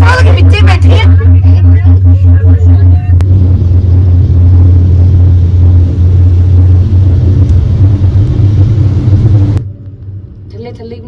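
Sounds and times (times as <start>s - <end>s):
low rumble of vehicle in motion: 0.0s - 11.0s.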